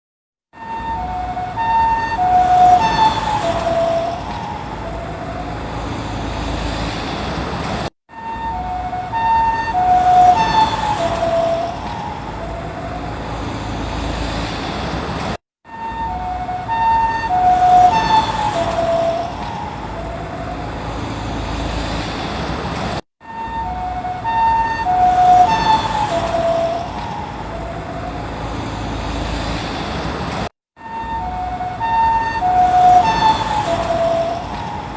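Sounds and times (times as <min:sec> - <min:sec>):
two-tone siren passing: 0:00.5 - 0:07.4, 0:08.1 - 0:14.7, 0:15.6 - 0:22.2, 0:23.2 - 0:29.8, 0:30.8 - 0:34.9
road noise: 0:00.5 - 0:34.9.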